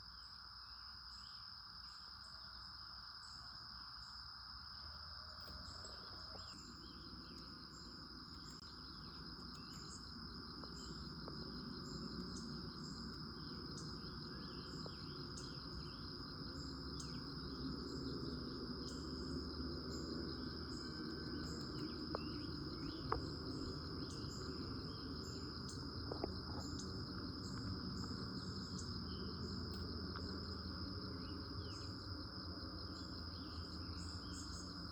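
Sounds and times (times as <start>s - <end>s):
insect trill: 0.0s - 34.9s.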